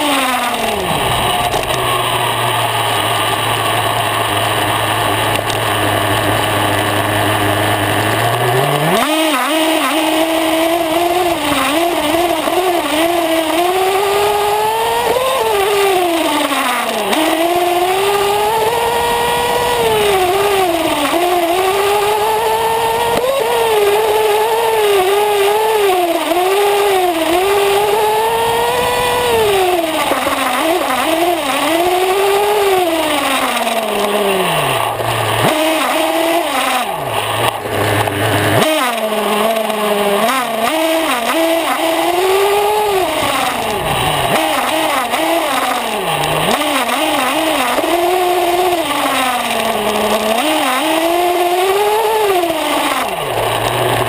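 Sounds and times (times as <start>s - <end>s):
nitro engine revving: 0.0s - 54.0s.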